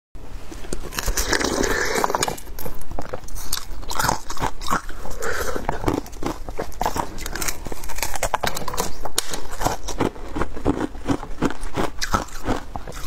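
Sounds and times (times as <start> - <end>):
ice being chewed: 0.6 - 13.0.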